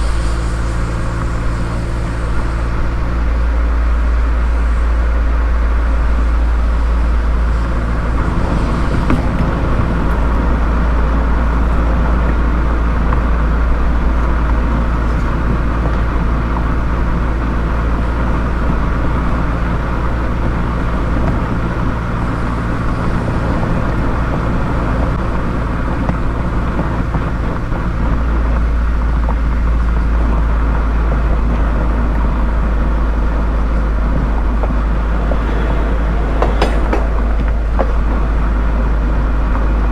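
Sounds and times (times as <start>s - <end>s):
car engine and exhaust droning: 0.0s - 39.9s
road noise: 0.0s - 39.9s.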